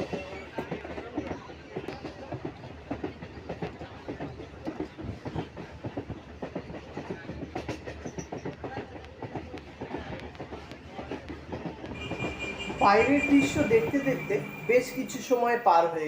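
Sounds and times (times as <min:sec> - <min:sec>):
train rumble: 0:00.0 - 0:16.0
train wheels clattering on rails: 0:00.0 - 0:16.0.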